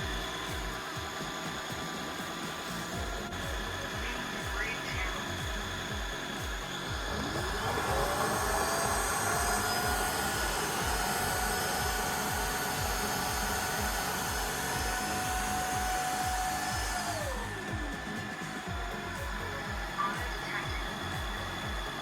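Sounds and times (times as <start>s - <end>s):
floor washer motor whine: 0.0s - 22.0s
airflow hiss: 2.4s - 22.0s.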